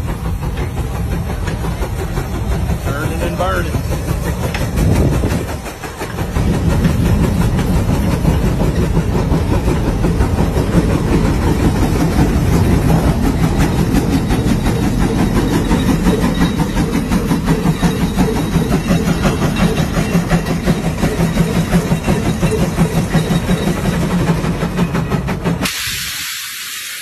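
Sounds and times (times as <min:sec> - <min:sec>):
old tractor engine running: 0:00.0 - 0:25.7.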